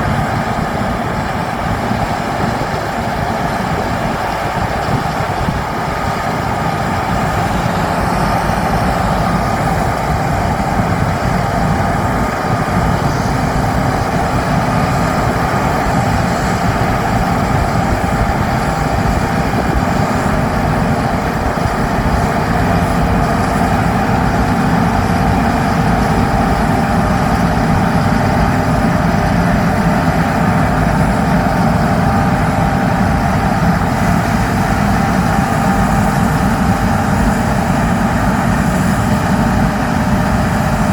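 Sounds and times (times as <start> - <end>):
diesel engine drone: 0.0 - 40.9
faint steady whine: 0.0 - 40.9.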